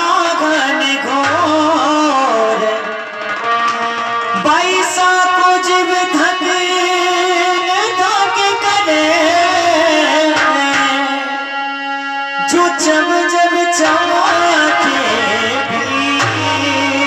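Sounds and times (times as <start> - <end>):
harmonium chords: 0.0 - 17.0
person singing into microphone: 0.0 - 17.0.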